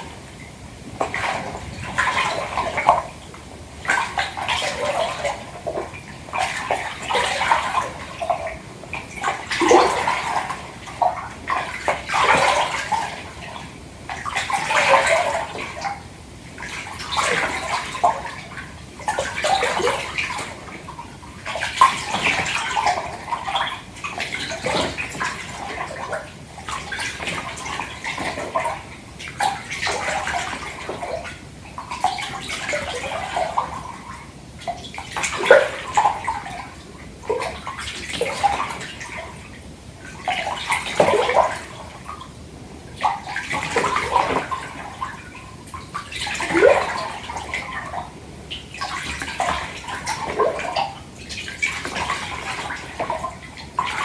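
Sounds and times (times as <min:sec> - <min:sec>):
bath water sloshing and splashing: 0:00.0 - 0:54.0.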